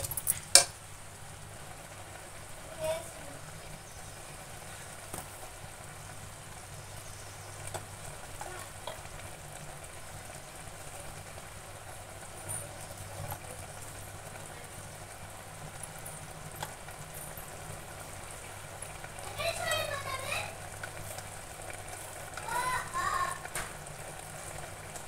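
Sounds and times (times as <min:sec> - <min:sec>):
gravy sizzling in pot: 0:00.0 - 0:25.0.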